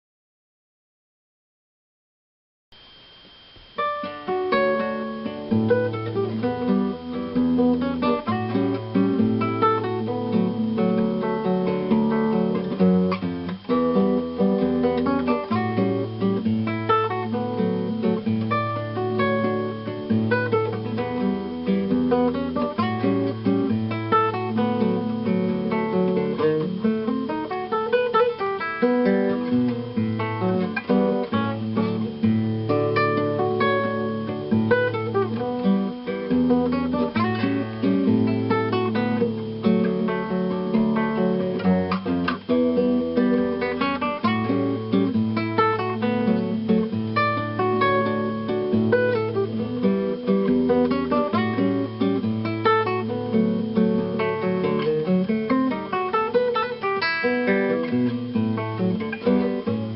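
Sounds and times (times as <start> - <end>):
acoustic guitar fingerpicking: 3.2 - 59.9.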